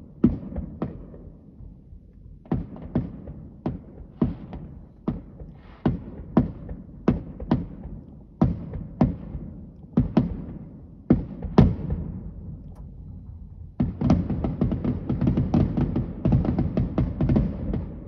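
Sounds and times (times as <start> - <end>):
fireworks bangs: 2.5 - 12.9, 13.7 - 18.0.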